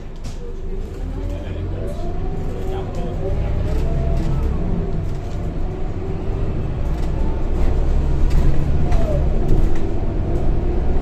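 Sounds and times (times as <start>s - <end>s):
bus engine rumble: 0.0s - 11.0s
faint drivetrain whine: 0.8s - 11.0s.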